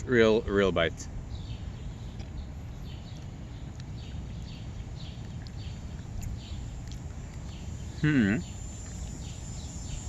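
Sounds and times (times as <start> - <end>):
bird chirping: 0.0 - 10.0
low outdoor rumble: 0.0 - 10.0.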